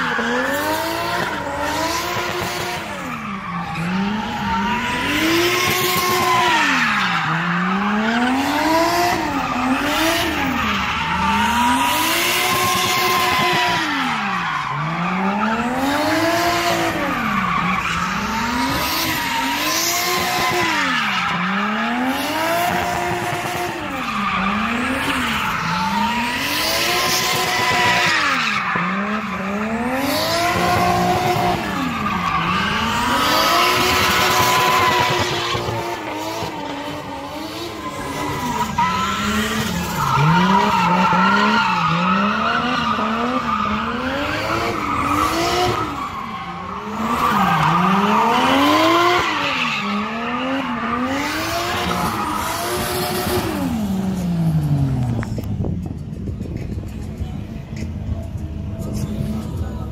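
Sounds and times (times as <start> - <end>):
tyre screech: 0.0 - 54.8
car engine revving: 0.0 - 59.9.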